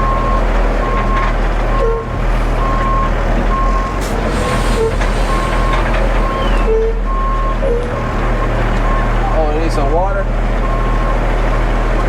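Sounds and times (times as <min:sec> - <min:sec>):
reversing alarm beeping: 0:00.0 - 0:09.6, 0:10.6 - 0:11.2
diesel engine hum: 0:00.0 - 0:12.0.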